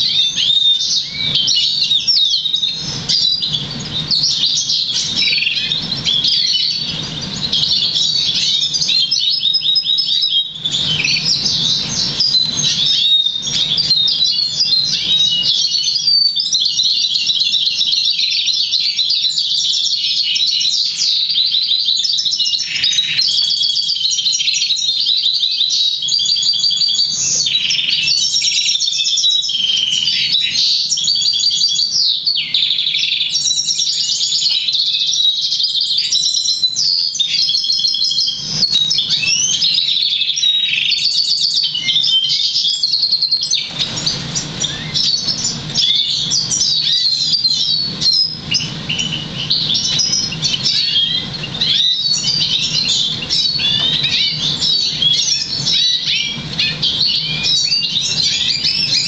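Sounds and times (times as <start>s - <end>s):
bird singing trills: 0.0s - 59.0s.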